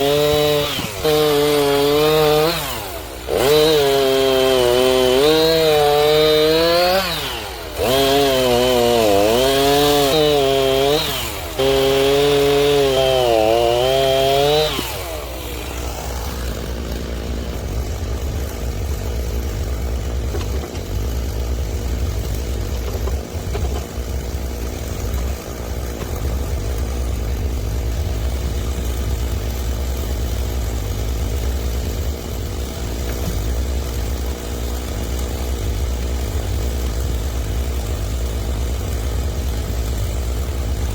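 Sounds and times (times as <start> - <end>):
chainsaw cutting wood: 0.0 - 40.9
chainsaw idling: 0.0 - 40.9.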